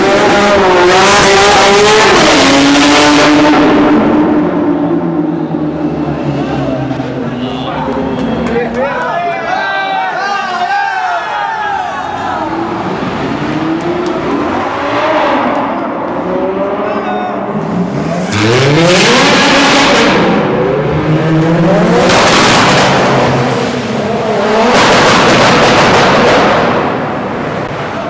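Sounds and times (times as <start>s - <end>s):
sports car engines revving in tunnel: 0.0s - 8.8s, 12.1s - 28.0s.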